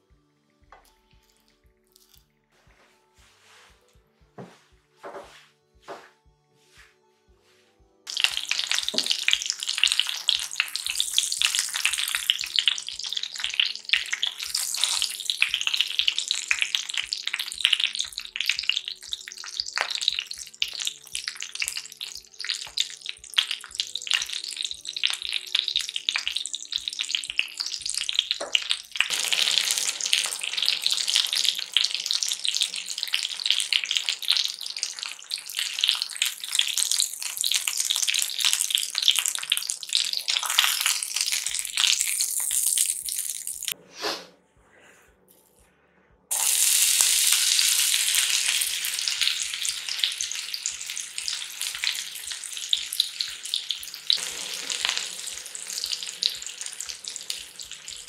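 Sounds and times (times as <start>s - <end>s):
chicken sizzling in butter: 8.1s - 43.8s, 46.3s - 58.0s
onion and garlic sizzling: 8.1s - 43.8s, 46.3s - 58.0s.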